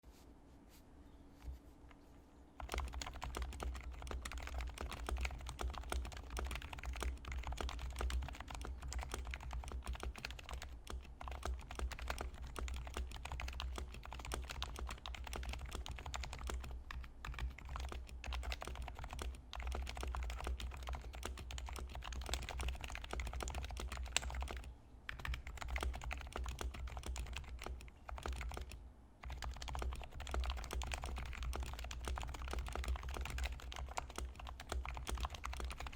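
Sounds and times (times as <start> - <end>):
keyboard typing muted clicks: 2.6 - 35.9.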